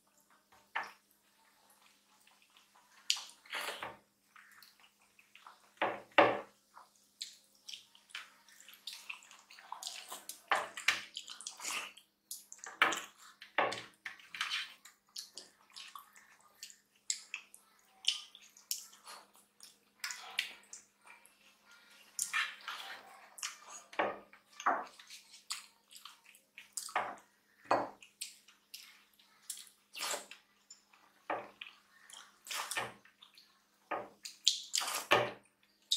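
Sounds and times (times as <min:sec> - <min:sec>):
fingers squishing food: 0:00.2 - 0:35.9
chewing and lip smacks: 0:01.7 - 0:05.8, 0:06.8 - 0:13.5, 0:14.1 - 0:23.9, 0:24.5 - 0:27.0, 0:28.0 - 0:33.6, 0:34.2 - 0:35.9.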